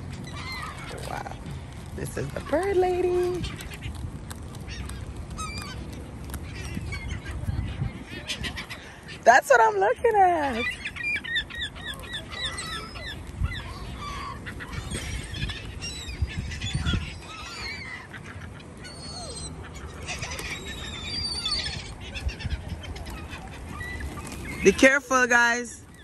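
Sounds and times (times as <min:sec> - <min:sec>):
gulls calling: 0:00.0 - 0:26.0.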